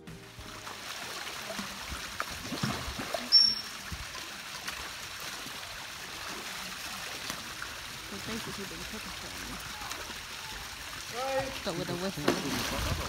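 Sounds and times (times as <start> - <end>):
pool water sloshing and splashing: 0.0 - 13.0.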